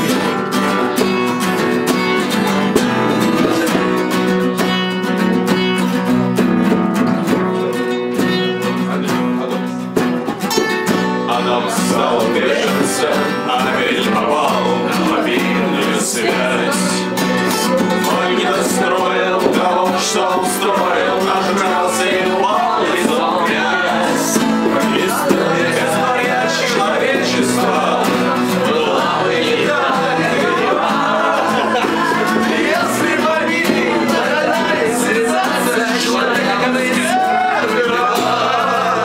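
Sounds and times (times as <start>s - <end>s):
acoustic guitars strummed: 0.0s - 39.0s
men singing: 0.0s - 39.0s.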